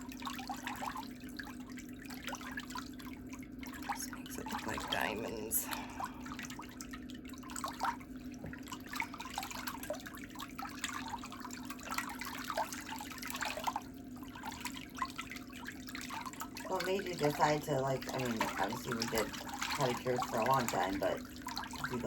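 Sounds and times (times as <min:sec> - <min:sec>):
steady low hum: 0:00.0 - 0:22.0
water trickling and dripping: 0:00.0 - 0:22.0.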